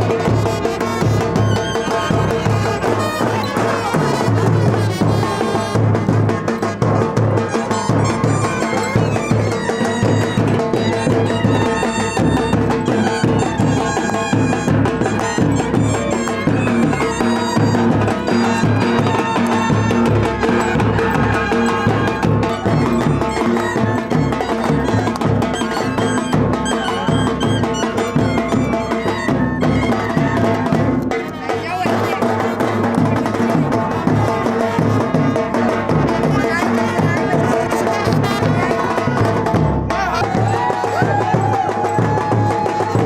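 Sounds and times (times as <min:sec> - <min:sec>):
loud music with drum beat: 0:00.0 - 0:43.0.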